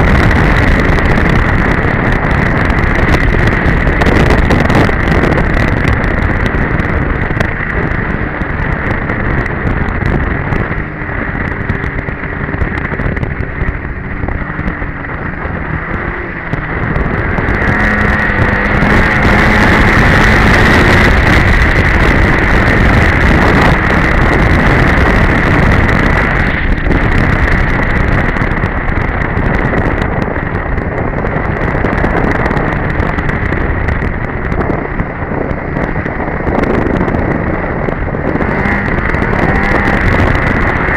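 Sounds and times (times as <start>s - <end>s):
snowmobile engine running: 0.0s - 40.9s
wind buffeting microphone: 0.0s - 40.9s.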